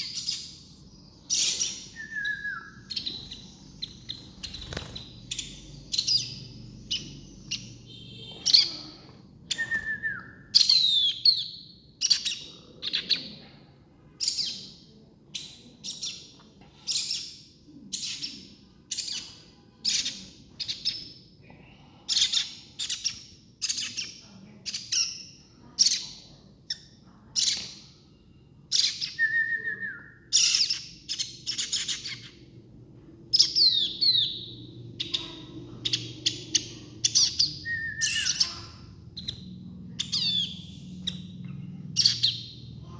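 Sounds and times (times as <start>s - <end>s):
baby birds chirping: 0.0s - 13.5s, 14.2s - 21.3s, 22.1s - 42.9s.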